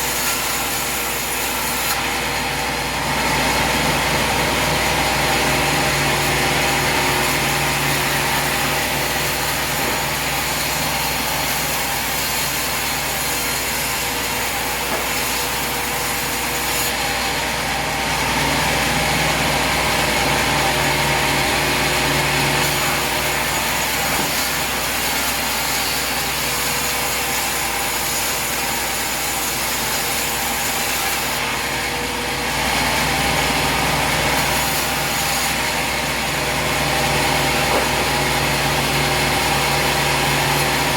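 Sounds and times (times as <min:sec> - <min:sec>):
saw blade cutting wood: 0:00.0 - 0:40.9.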